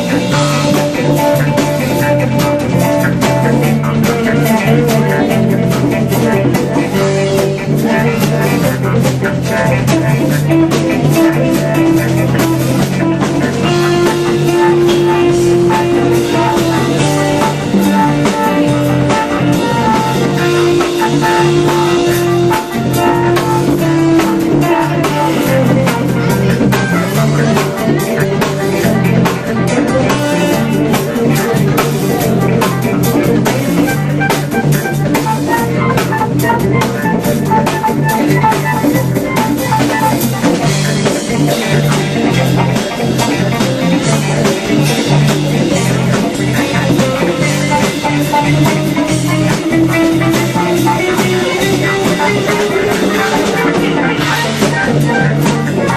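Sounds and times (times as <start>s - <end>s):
drum kit: 0.0s - 55.9s
electric guitar: 0.0s - 55.9s.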